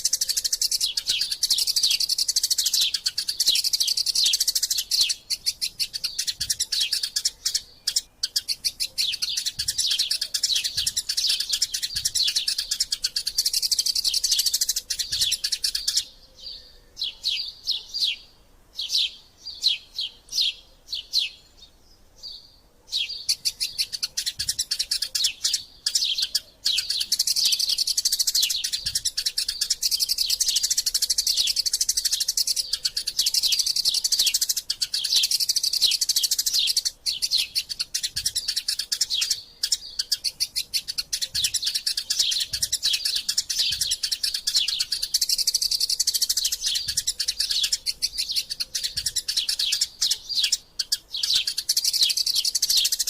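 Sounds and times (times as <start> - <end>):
sparrows chirping rapidly: 0.0 - 53.0.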